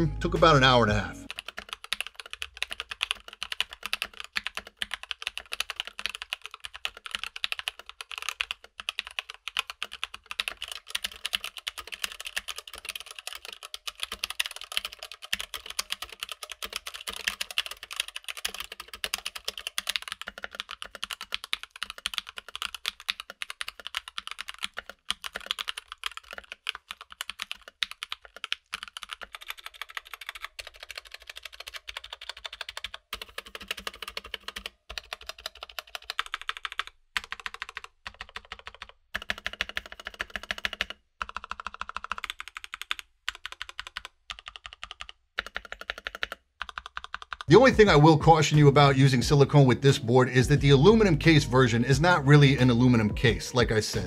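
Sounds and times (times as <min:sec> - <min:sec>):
fast mechanical keyboard typing: 0:00.9 - 0:48.4.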